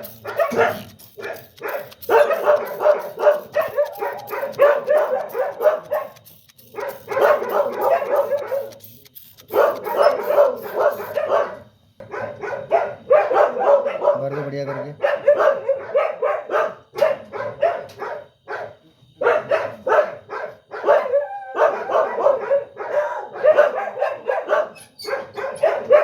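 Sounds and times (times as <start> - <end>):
dog yelping and barking: 0.1 - 18.7, 19.3 - 26.0.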